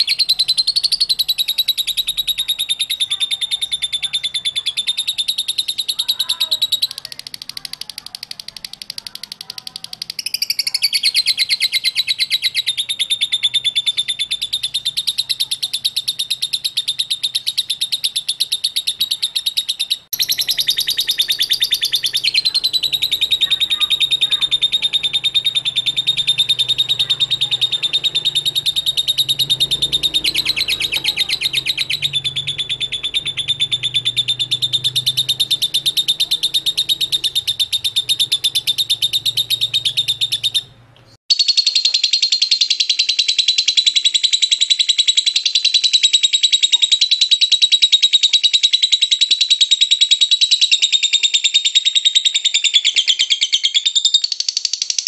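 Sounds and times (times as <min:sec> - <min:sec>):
lovebird chattering song: 0:00.0 - 0:55.0.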